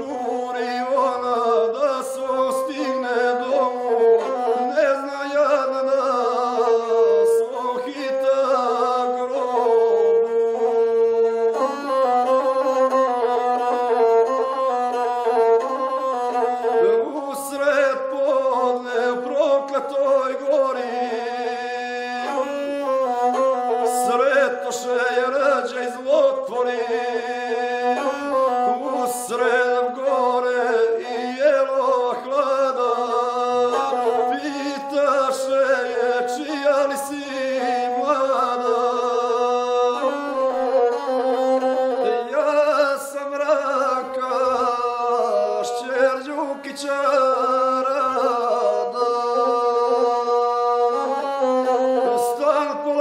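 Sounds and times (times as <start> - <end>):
bowed single-string fiddle: 0.0 - 53.0
man singing: 0.0 - 53.0.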